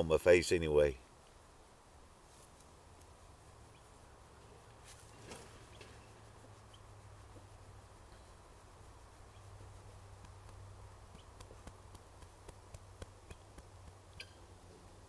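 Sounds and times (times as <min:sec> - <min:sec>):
steady low hum: 0:00.0 - 0:15.0
small fire crackling: 0:01.2 - 0:15.0.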